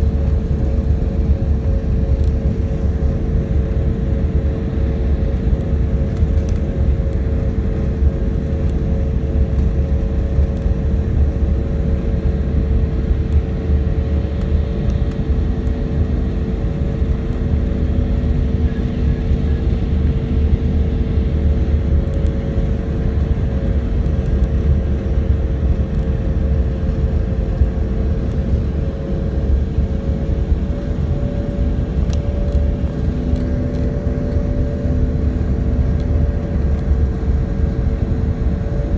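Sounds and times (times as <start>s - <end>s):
airliner cabin rumble: 0.0s - 38.9s
engine drone: 0.0s - 38.9s
lower engine drone: 0.0s - 38.9s.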